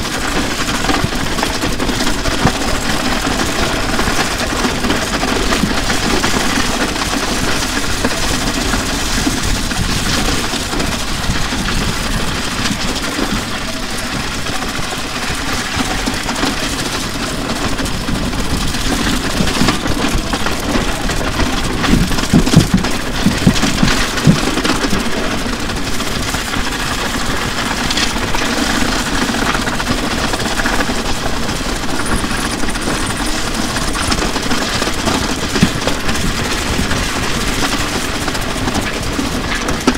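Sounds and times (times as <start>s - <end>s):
drum kit scraping on asphalt: 0.0s - 39.9s
knocks and clanks of tumbling pieces: 0.0s - 39.9s.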